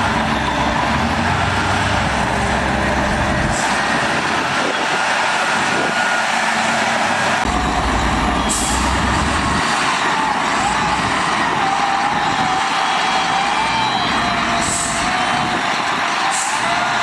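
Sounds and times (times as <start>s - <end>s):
heavy diesel machinery engine: 0.0s - 17.0s.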